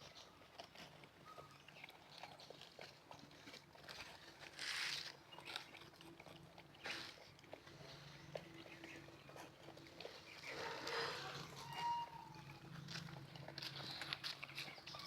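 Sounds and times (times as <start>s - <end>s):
puppies mouthing and scuffing: 0.0s - 15.0s.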